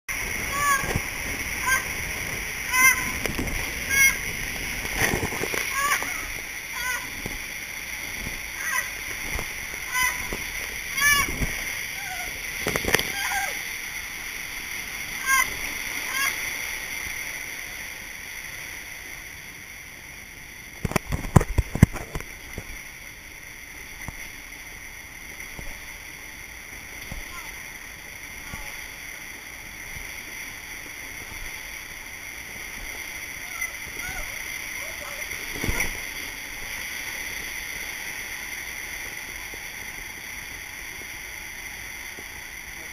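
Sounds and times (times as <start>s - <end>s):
rushing water and air: 0.1s - 42.9s.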